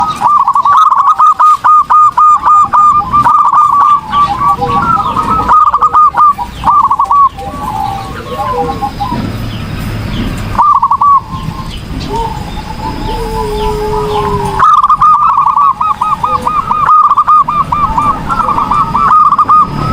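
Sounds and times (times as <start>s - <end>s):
dove cooing: 0.0s - 9.5s, 10.5s - 19.9s.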